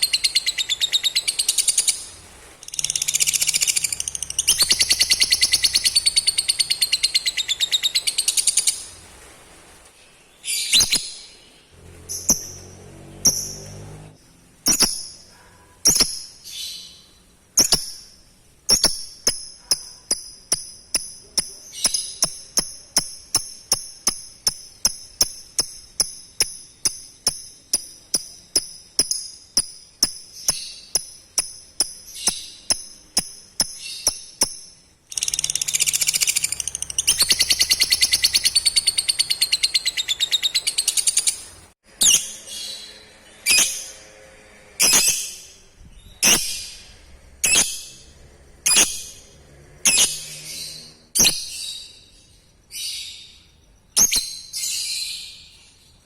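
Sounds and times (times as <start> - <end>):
lovebird chirping and trilling: 0.0 - 9.0, 10.4 - 11.4, 12.0 - 13.8, 14.6 - 44.0, 44.8 - 55.5.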